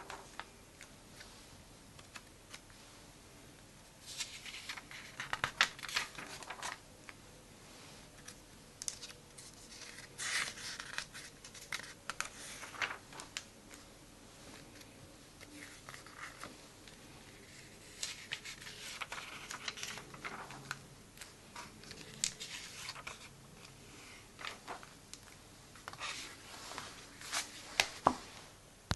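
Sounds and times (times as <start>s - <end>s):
paper pages rustling: 0.0s - 1.3s, 4.0s - 7.2s, 8.0s - 13.9s, 14.5s - 28.3s.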